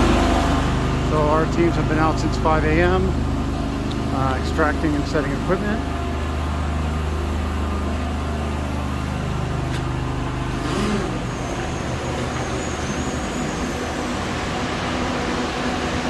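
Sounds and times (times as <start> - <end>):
drying machinery drone: 0.0 - 16.0.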